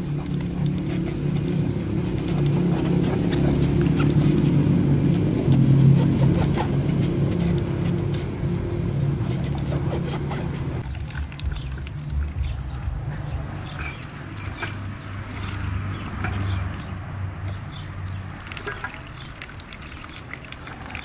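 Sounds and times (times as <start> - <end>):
ducks dabbling in wet mud: 0.0 - 6.2, 9.5 - 21.0.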